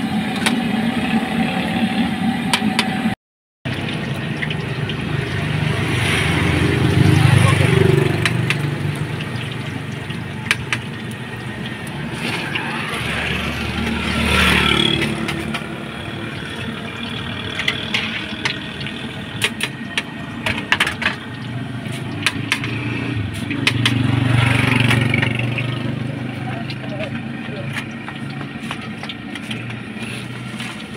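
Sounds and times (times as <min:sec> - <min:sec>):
engine humming: 0:00.0 - 0:30.9
fries sizzling in hot oil: 0:03.7 - 0:30.9.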